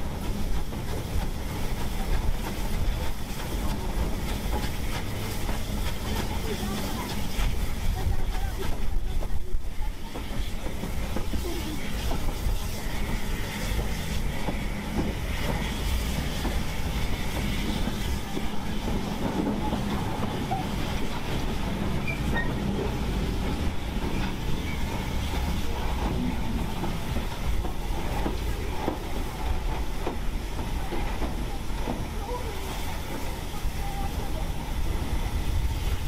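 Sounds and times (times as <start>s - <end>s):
steam locomotive rumble: 0.0s - 36.0s
wheels clicking on rails: 0.0s - 36.0s.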